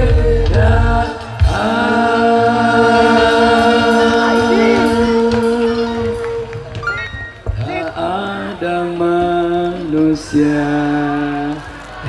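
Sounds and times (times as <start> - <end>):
man singing devotional song: 0.0 - 6.8, 7.6 - 12.0
backing music: 0.0 - 12.0.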